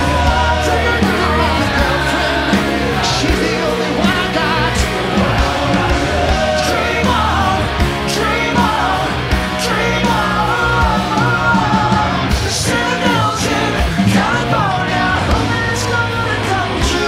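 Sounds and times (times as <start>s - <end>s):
drums beating: 0.0s - 17.0s
electric guitars: 0.0s - 17.0s
rock band playing live: 0.0s - 17.0s.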